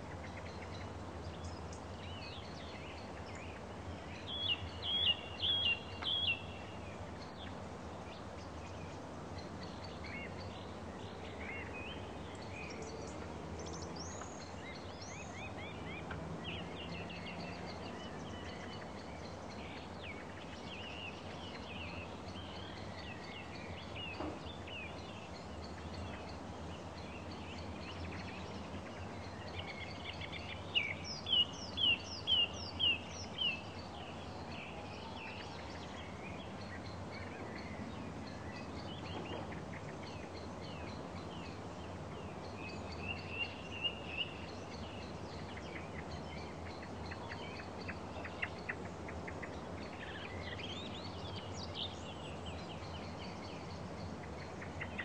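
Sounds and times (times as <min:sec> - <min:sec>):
songbirds singing and calling: 0:00.0 - 0:55.0.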